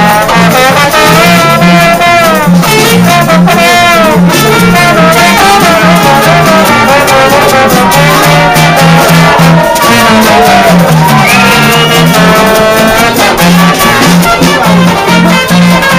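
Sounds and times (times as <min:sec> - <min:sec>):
banjo: 0:00.0 - 0:15.9
brass band playing upbeat tune: 0:00.0 - 0:15.9
drum kit: 0:00.0 - 0:15.9.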